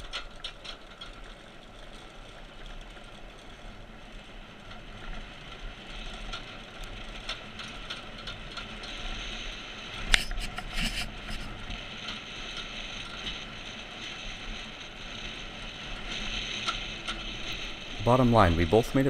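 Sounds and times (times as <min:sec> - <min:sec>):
minibike frame rattling: 0:00.0 - 0:19.0.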